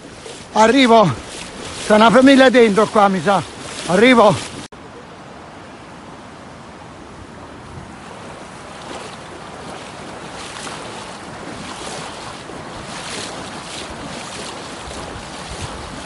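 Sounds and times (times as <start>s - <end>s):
splashing of wading: 0.0s - 4.7s, 7.4s - 16.0s
floodwater rushing: 0.0s - 16.0s.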